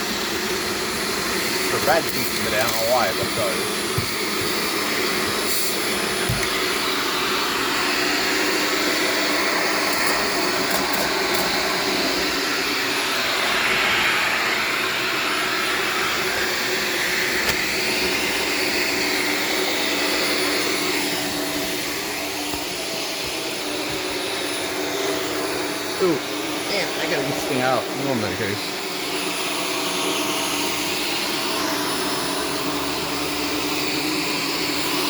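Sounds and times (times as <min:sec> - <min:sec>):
vacuum cleaner on carpet: 0:00.0 - 0:35.0.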